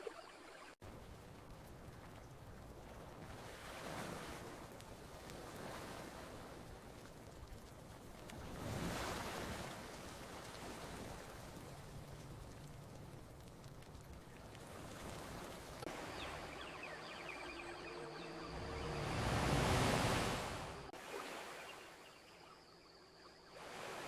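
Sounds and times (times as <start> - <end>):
ocean waves washing onto beach: 0.8 - 22.5, 23.5 - 24.0.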